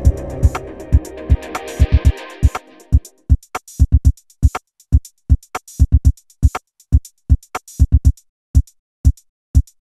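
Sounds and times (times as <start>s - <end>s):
drum machine electronic music: 0.0s - 9.8s.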